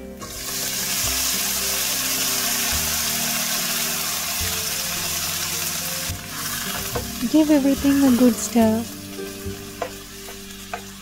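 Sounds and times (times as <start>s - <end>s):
prawns sizzling in a frying pan: 0.0s - 11.0s.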